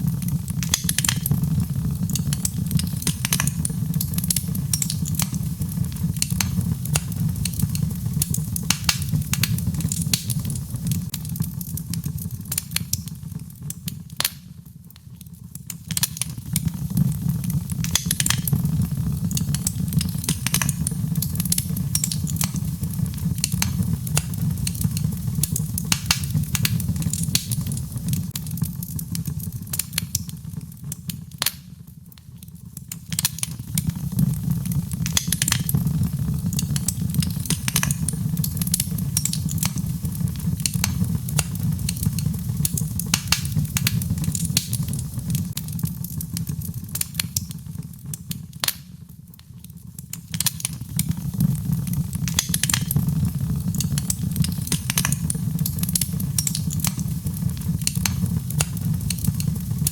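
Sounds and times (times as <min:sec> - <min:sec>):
logs crackling and popping: 0:00.0 - 0:59.9
low fire rumble: 0:00.0 - 0:59.9.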